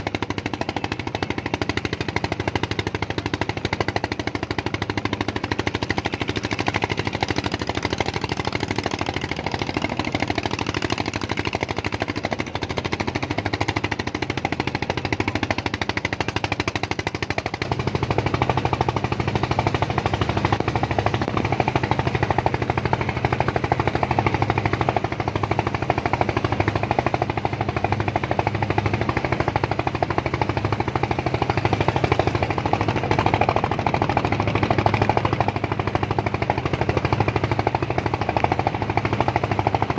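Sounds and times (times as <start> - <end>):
small engine chugging: 0.0 - 39.9.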